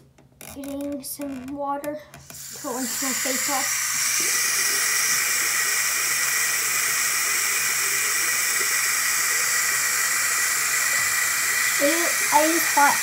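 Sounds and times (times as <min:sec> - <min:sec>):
tap water pouring into basin: 0:02.2 - 0:13.0.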